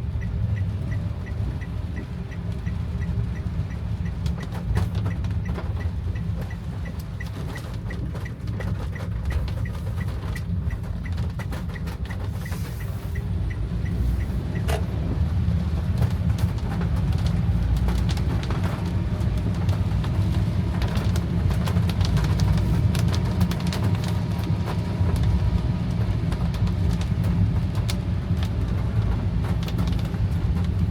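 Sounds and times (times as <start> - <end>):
engine and road rumble: 0.0 - 30.9
light ticking: 0.0 - 30.9
rain spattering on a car: 0.0 - 30.9.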